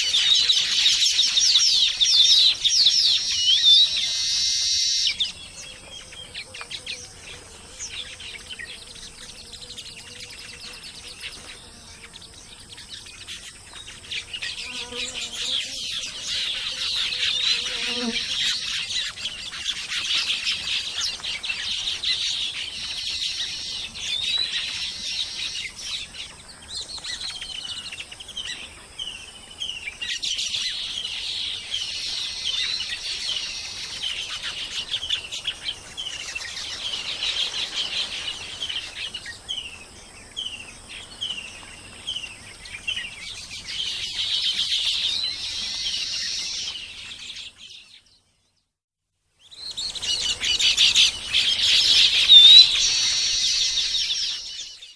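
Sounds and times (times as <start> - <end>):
weaver birds twittering: 0.0 - 48.6, 49.4 - 54.9.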